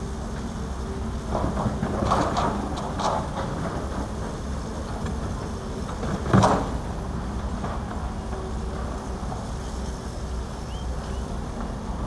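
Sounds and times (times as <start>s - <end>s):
excavator diesel engines running: 0.0s - 12.0s.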